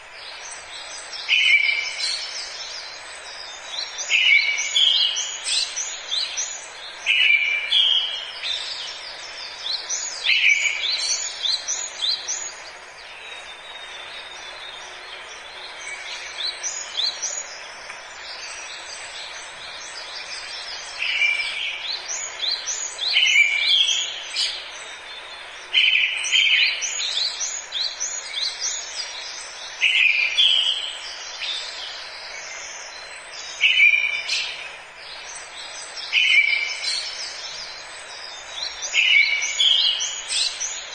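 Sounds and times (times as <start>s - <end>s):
forest birds singing: 0.0s - 40.9s
steady background hiss: 0.0s - 40.9s.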